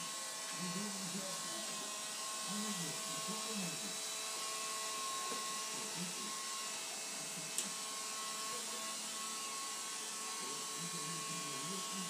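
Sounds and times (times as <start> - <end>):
stick vacuum cleaner running: 0.0 - 12.0.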